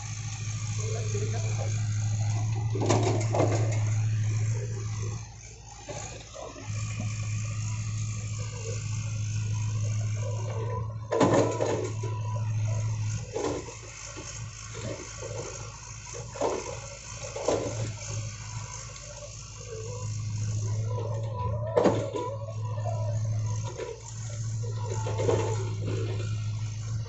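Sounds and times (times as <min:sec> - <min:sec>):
excavator engine running: 0:00.0 - 0:27.0.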